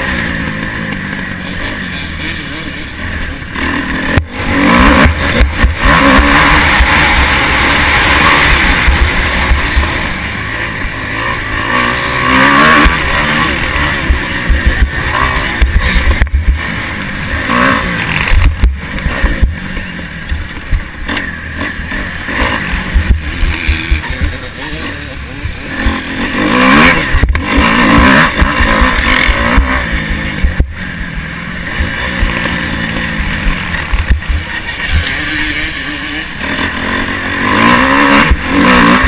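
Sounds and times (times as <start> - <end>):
motocross bike engine revving: 0.0 - 39.0
rushing noise: 0.0 - 39.0.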